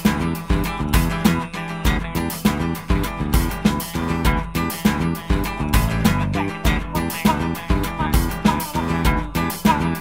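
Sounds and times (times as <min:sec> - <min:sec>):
guitar strumming chords: 0:00.0 - 0:10.0
steady beat: 0:00.0 - 0:10.0.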